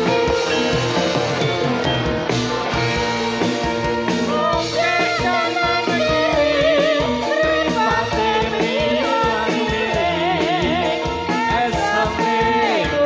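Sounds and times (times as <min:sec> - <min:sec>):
instrumental music over pa: 0:00.0 - 0:13.0.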